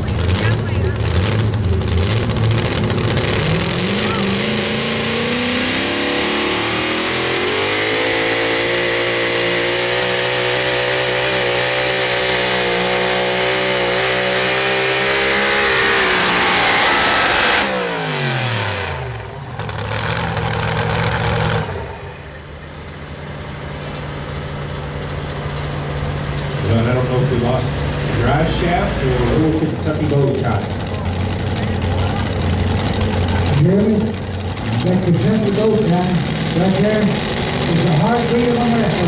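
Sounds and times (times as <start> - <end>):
truck engine at high revs: 0.0 - 39.0.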